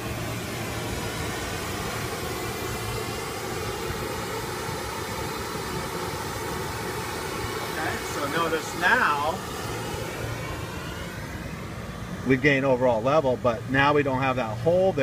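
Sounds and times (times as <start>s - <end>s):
pink noise hiss: 0.0s - 15.0s.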